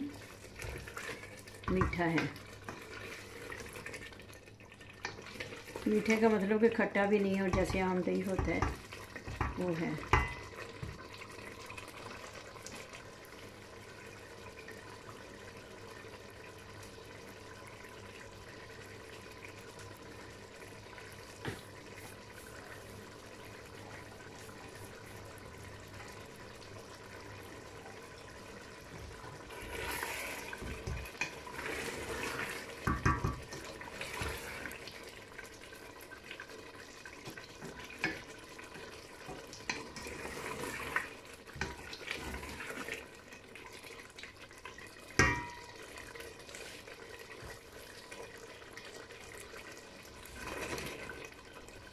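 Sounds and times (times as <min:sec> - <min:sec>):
curry bubbling in a pot: 0:00.0 - 0:51.9
wooden spoon stirring in pot: 0:00.0 - 0:51.9.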